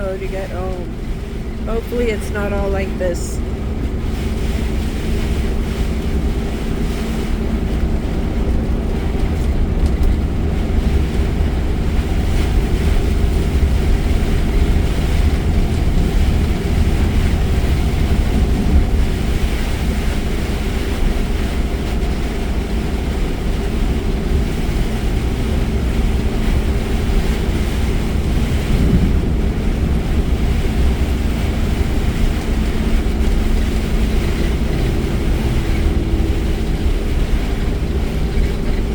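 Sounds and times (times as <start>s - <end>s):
car road and engine rumble: 0.0s - 38.9s
heavy rain hiss: 0.0s - 38.9s
wind against car: 0.0s - 38.9s.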